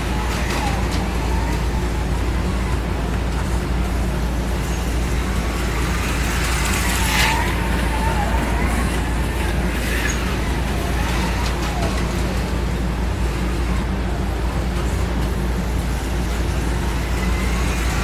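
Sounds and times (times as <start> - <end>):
small electric motors whining: 0.0 - 15.0
steady low hum: 0.0 - 18.0.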